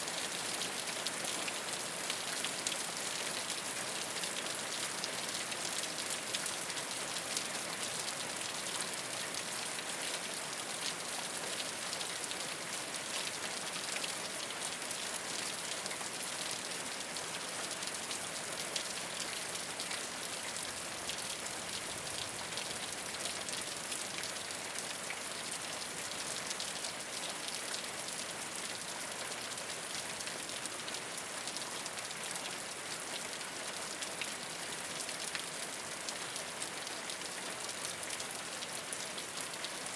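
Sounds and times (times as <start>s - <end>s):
rain falling on a rooftop: 0.0s - 39.9s.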